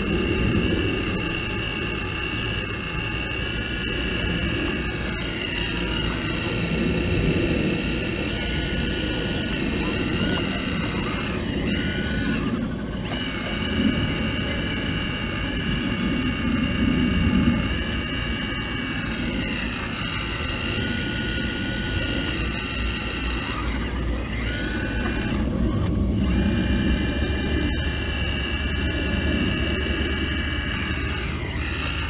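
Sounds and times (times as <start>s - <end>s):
excavator diesel engine rumble: 0.0s - 32.0s
high whine shifting pitch: 0.0s - 32.0s.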